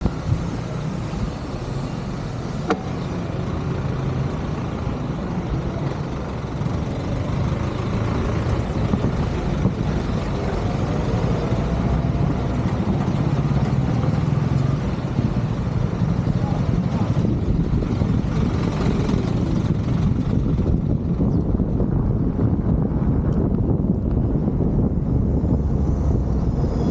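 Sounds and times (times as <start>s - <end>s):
motor vehicle rumble: 0.0s - 26.9s.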